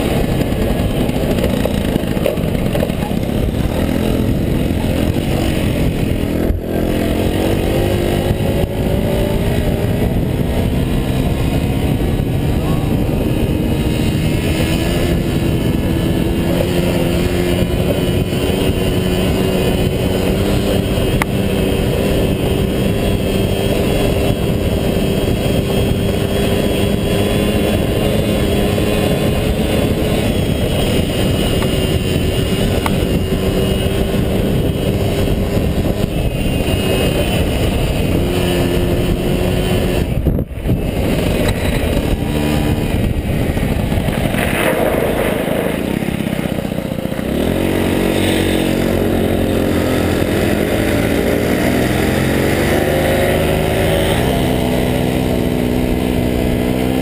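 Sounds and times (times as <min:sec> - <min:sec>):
motorbike engine running: 0:00.0 - 0:57.0
wind rushing over camera: 0:00.0 - 0:57.0.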